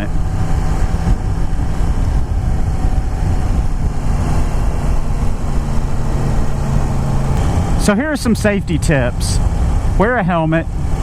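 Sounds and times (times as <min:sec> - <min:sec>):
motorcycle engine cruising: 0:00.0 - 0:11.0
wind rushing over microphone: 0:00.0 - 0:11.0.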